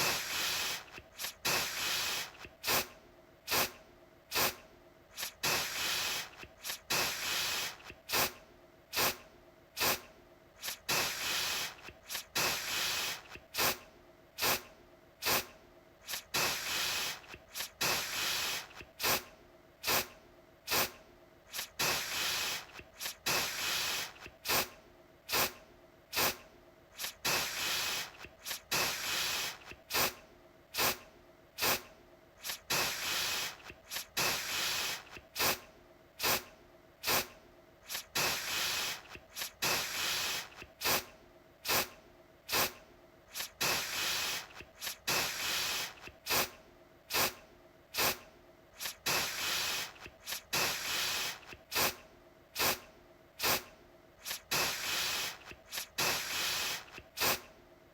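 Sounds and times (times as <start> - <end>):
aerosol can spraying: 0.0 - 2.9, 3.5 - 9.2, 9.8 - 13.8, 14.4 - 20.1, 20.7 - 26.4, 27.0 - 30.2, 30.8 - 31.0, 31.6 - 35.6, 36.2 - 47.4, 48.0 - 48.2, 48.8 - 52.0, 52.6 - 52.8, 53.4 - 57.5.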